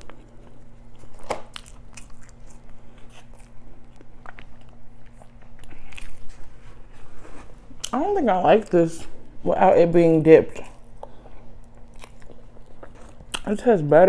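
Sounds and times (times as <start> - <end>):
person chewing food: 0.0 - 9.4, 10.5 - 13.5.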